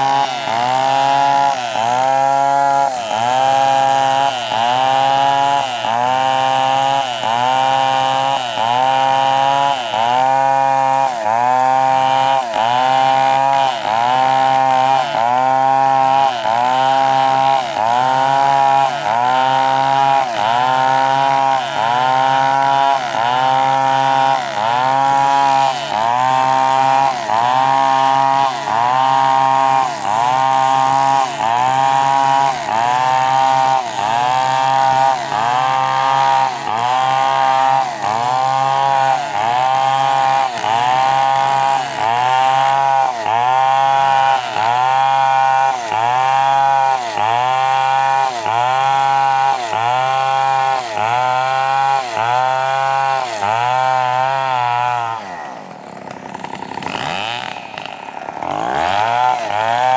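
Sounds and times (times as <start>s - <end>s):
chainsaw cutting tree trunk: 0.0s - 59.9s.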